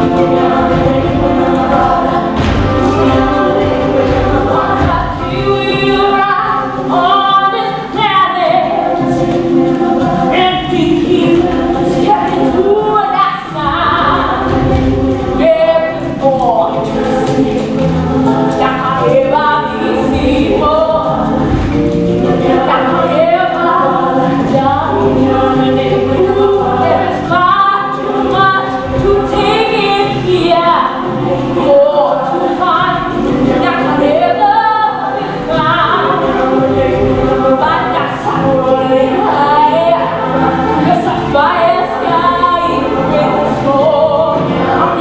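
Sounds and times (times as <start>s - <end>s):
youth chorus singing: 0.0s - 45.0s.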